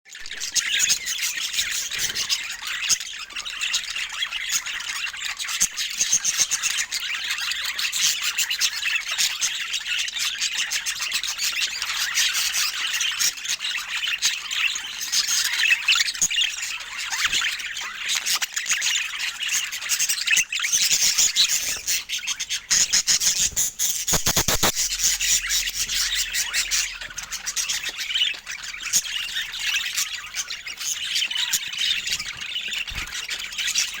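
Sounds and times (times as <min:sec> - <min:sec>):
budgerigars chattering: 0:00.3 - 0:34.0.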